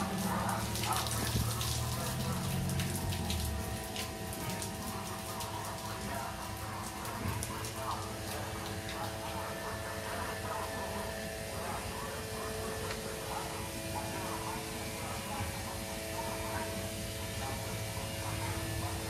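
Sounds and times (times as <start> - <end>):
faint voices: 0.0 - 19.0
water pump electric buzz: 0.0 - 19.0.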